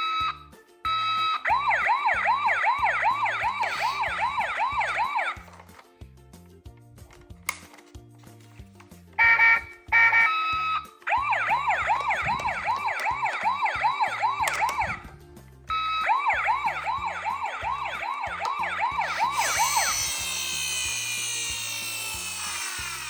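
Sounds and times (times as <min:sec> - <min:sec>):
toy electronic siren wailing: 0:00.0 - 0:05.5, 0:09.2 - 0:15.1, 0:15.7 - 0:23.0
background music with bass line: 0:00.0 - 0:19.9.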